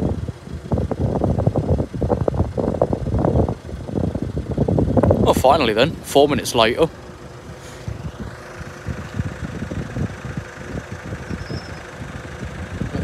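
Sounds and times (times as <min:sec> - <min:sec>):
vehicle engines idling: 0:00.0 - 0:13.0.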